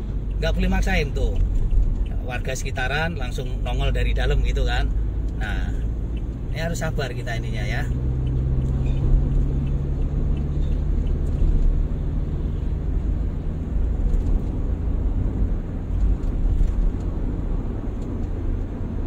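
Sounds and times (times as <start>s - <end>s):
car cabin road rumble: 0.0s - 19.0s
truck humming alongside: 0.0s - 19.0s.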